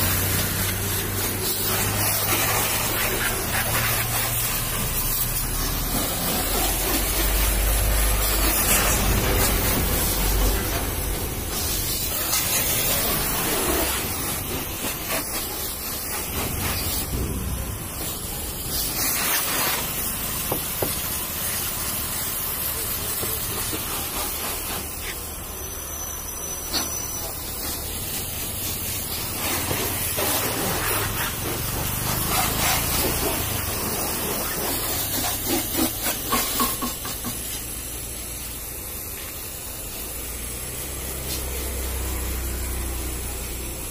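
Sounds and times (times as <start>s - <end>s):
pressure washer spraying car: 0.0s - 43.9s.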